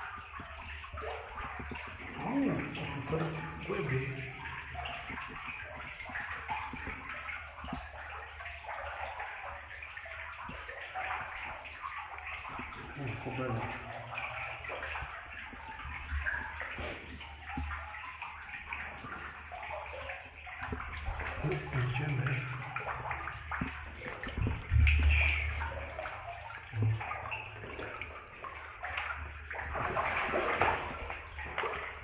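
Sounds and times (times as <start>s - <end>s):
water sloshing from wading: 0.0s - 32.0s.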